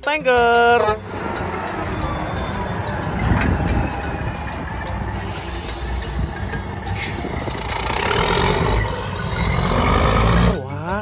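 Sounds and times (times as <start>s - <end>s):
truck driving past: 0.6s - 10.6s.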